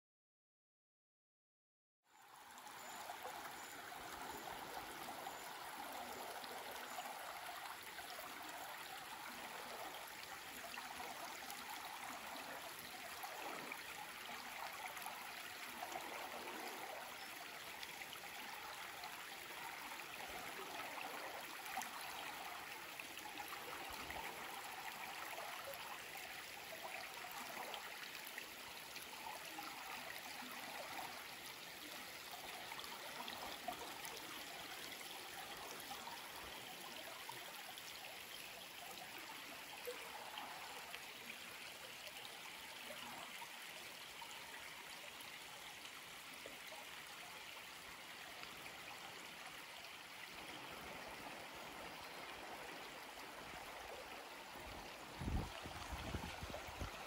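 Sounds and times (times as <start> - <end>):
river flowing over stones: 2.2 - 57.0.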